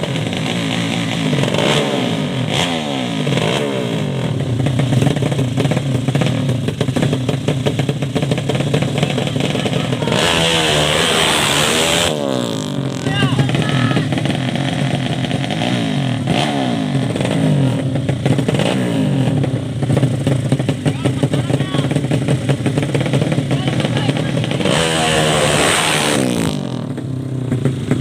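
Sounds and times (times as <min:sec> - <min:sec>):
motorcycle engines revving hard: 0:00.0 - 0:28.0.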